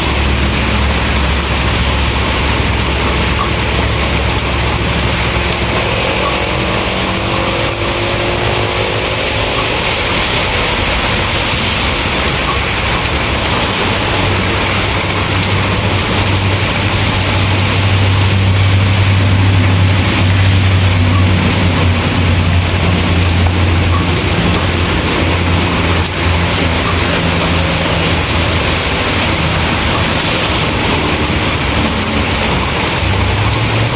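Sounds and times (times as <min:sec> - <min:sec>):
heavy rain hissing: 0:00.0 - 0:33.9
low rumble: 0:00.0 - 0:33.9.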